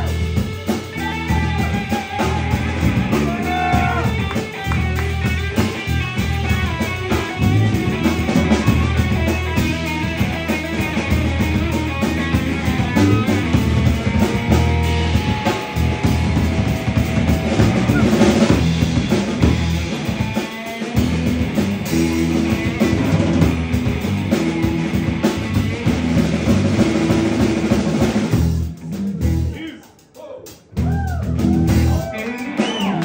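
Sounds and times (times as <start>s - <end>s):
electric guitar lead with note bends: 0.0s - 27.7s
bass guitar: 0.0s - 29.8s, 30.5s - 33.0s
drums: 0.0s - 33.0s.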